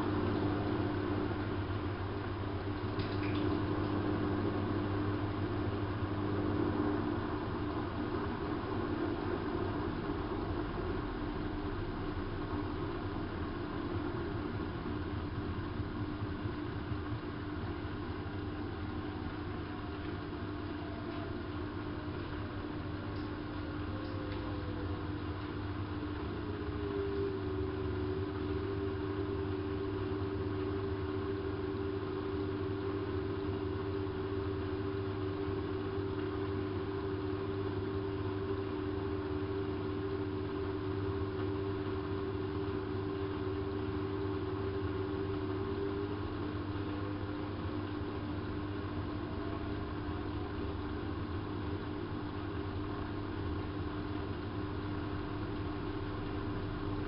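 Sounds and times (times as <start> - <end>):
washing machine motor whining: 0.0 - 57.0.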